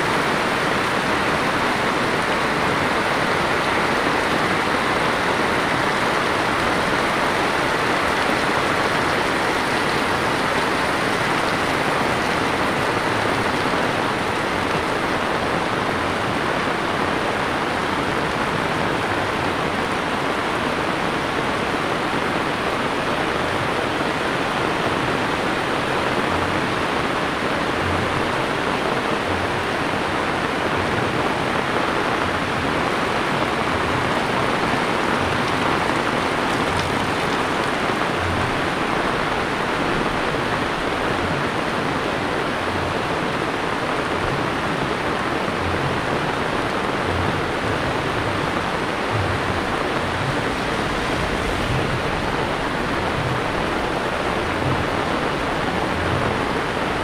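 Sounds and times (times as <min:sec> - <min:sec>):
heavy rain on paved road: 0:00.0 - 0:57.0.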